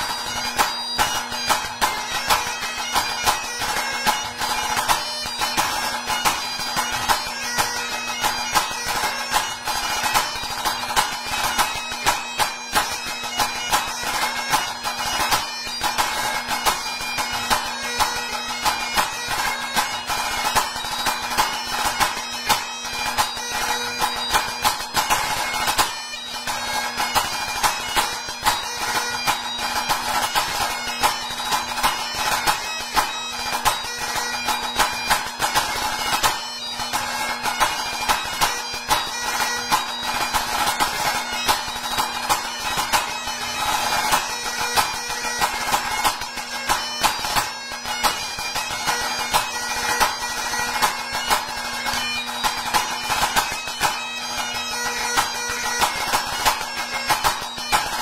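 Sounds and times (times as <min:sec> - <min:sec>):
bagpipe playing a tune: 0:00.0 - 0:58.0.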